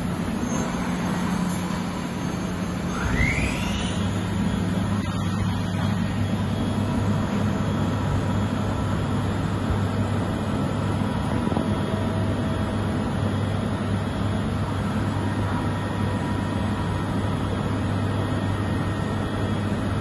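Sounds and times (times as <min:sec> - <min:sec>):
machining centre humming: 0:00.0 - 0:20.0.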